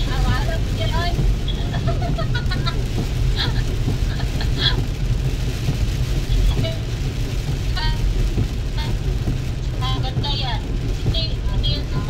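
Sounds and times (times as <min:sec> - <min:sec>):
road and tyre noise: 0:00.0 - 0:12.0
water spray and rain on car: 0:00.0 - 0:12.0.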